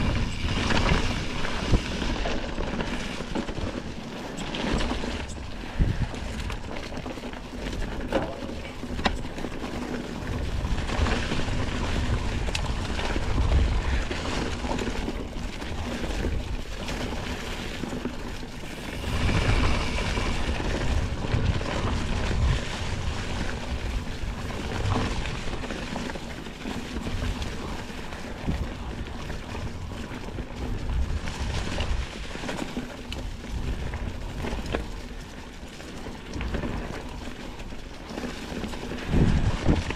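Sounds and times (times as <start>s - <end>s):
wind buffeting microphone: 0.0s - 35.6s, 36.2s - 39.9s
bike knocking and rattling: 0.0s - 39.9s
bike tyres rolling over leaves: 0.0s - 39.9s.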